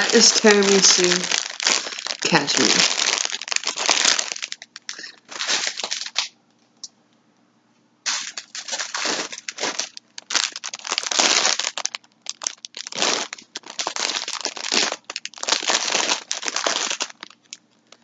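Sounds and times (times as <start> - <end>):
packaging crinkling: 0.0 - 6.3, 8.1 - 18.0.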